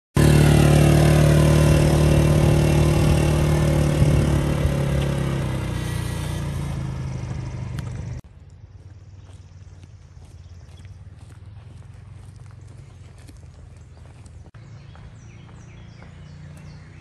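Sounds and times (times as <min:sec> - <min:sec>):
utility vehicle engine running: 0:00.2 - 0:17.0.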